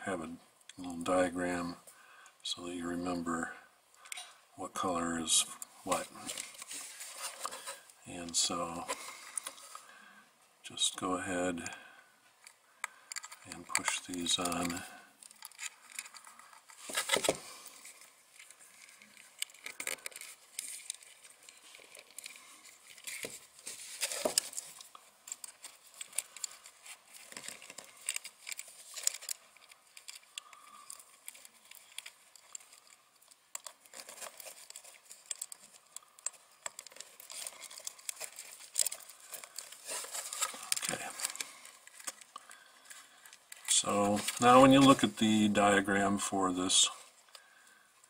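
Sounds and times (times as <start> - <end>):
wires rustling: 3.9 - 10.0, 10.7 - 47.8.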